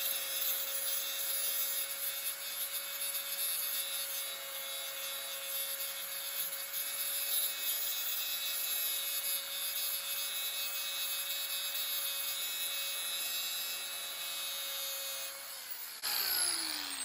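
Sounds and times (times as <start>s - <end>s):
power tool grinding metal: 0.0s - 17.0s.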